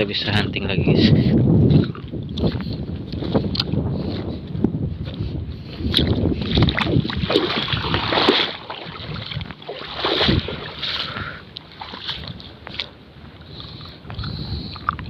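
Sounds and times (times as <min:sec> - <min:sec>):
wind buffeting microphone: 0:00.0 - 0:15.0
water splashing and sloshing: 0:01.7 - 0:04.2, 0:05.0 - 0:15.0.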